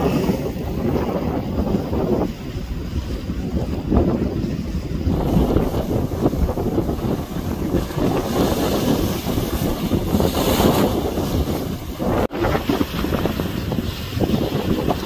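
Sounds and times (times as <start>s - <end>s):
surf breaking on rocky shore: 0.0s - 15.0s
wind buffeting microphone: 0.0s - 15.0s.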